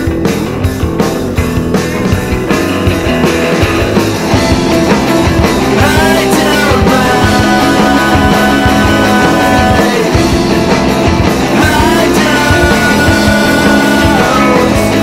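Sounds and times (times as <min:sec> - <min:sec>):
bass guitar: 0:00.0 - 0:15.0
steady drum beat: 0:00.0 - 0:15.0.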